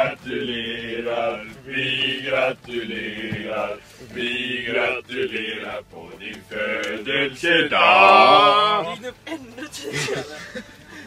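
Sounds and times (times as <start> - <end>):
men chanting held notes: 0.0 - 9.0.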